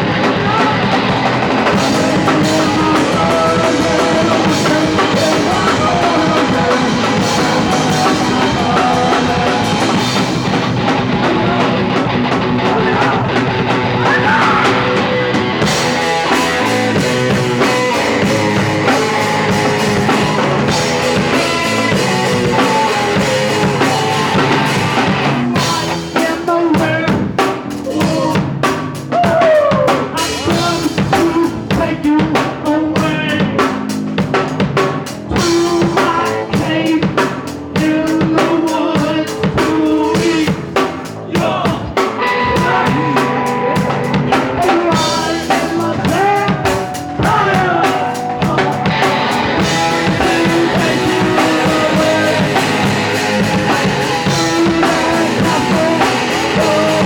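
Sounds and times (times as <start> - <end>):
drum kit: 0.0 - 57.0
punk rock band playing live: 0.0 - 57.0.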